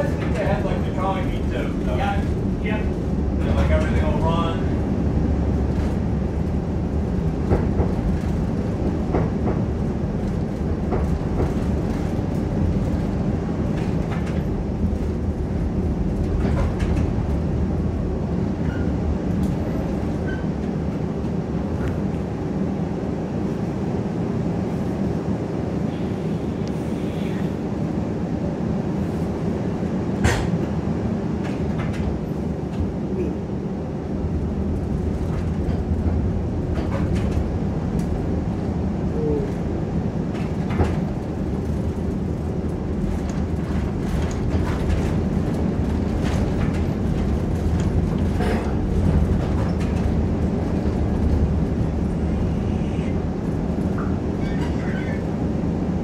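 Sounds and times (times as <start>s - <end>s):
streetcar rolling rumble: 0.0s - 56.0s.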